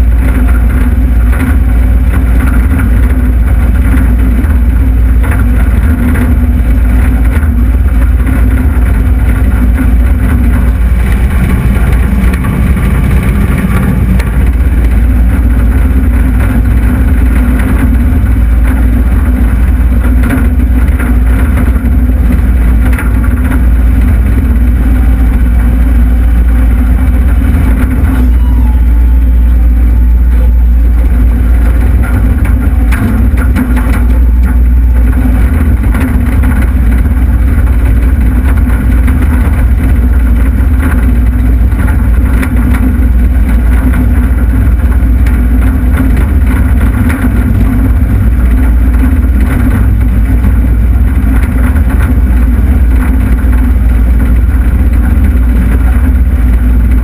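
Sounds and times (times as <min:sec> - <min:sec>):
diesel engine running under load: 0:00.0 - 0:57.0
machine scraping dirt: 0:00.0 - 0:57.0.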